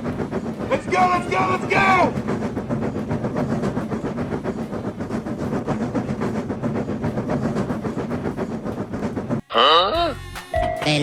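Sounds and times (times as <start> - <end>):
cartoon train clattering: 0.0 - 9.4.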